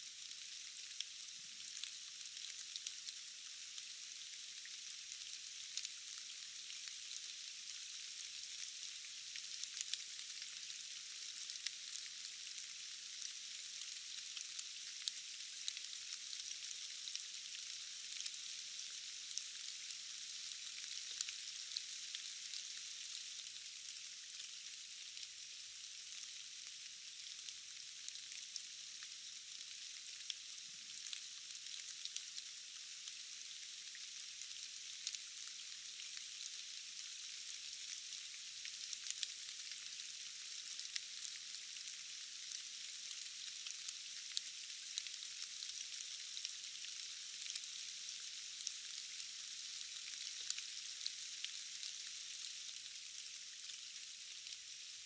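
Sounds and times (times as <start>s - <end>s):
rain falling in forest: 0.0s - 55.0s.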